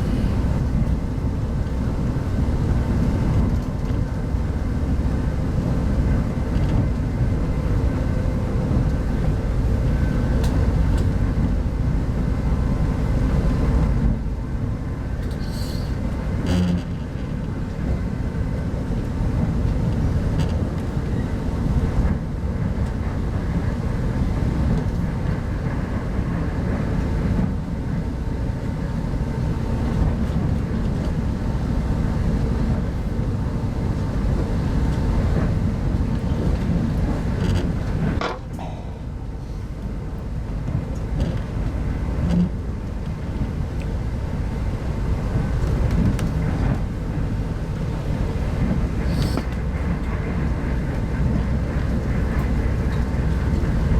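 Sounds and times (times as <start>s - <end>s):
train carriage rumbling on track: 0.0s - 53.9s.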